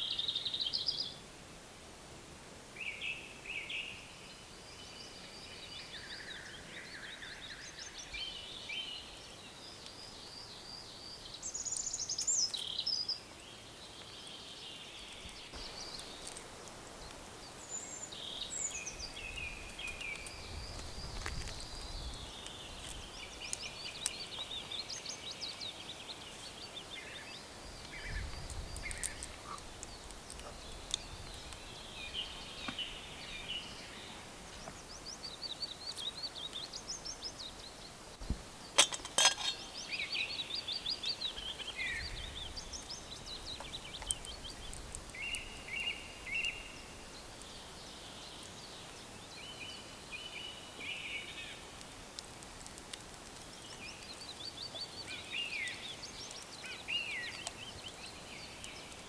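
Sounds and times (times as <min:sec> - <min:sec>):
songbirds trilling and chirping: 0:00.0 - 0:01.3, 0:02.6 - 0:59.0.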